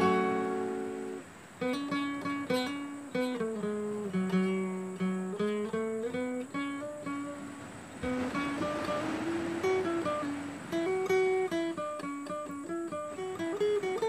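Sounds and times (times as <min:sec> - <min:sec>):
two acoustic guitars playing: 0:00.0 - 0:14.0.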